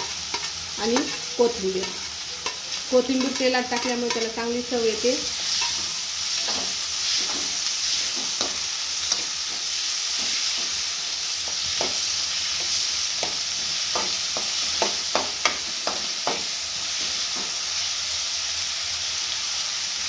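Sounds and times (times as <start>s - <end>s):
metal spoon scraping a pan: 0.0s - 17.6s
vegetables sizzling in oil: 0.0s - 20.0s.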